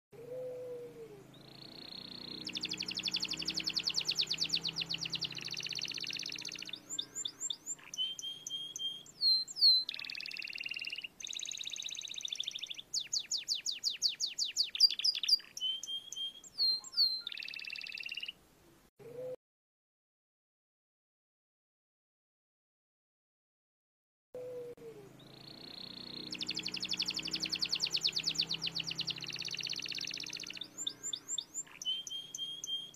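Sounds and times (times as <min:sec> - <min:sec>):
canary singing: 0:00.2 - 0:18.4, 0:24.4 - 0:32.9.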